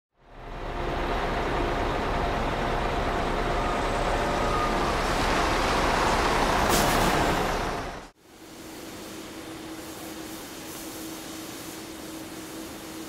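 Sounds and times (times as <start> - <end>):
steady rushing noise: 0.2 - 13.0.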